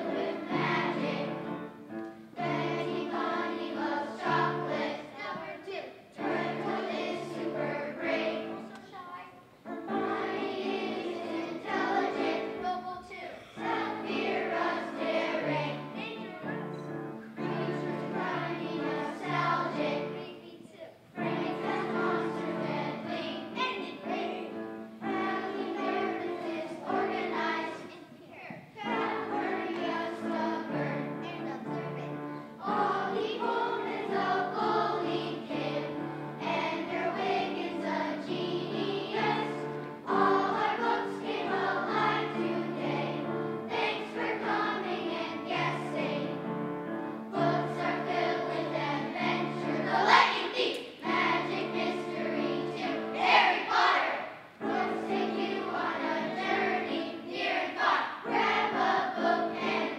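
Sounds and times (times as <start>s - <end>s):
held accompaniment chords: 0.0s - 8.8s, 9.6s - 28.0s, 28.8s - 59.9s
children's choir singing: 0.0s - 59.9s.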